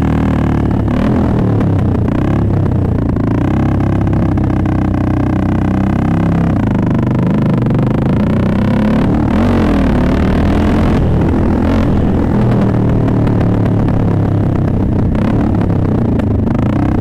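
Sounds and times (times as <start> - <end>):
motorcycle engine running: 0.0 - 17.0
rush of noise: 0.0 - 17.0.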